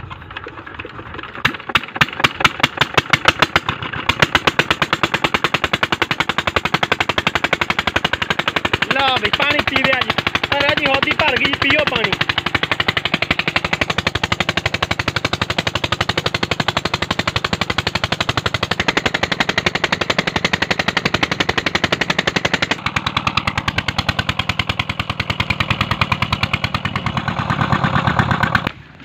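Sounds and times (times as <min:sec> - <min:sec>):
diesel pump engine running: 0:00.0 - 0:29.0.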